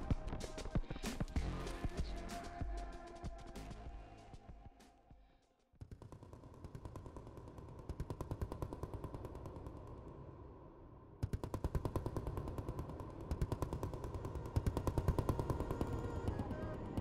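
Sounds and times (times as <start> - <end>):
percussive background music: 0.0 - 9.3, 11.2 - 17.0.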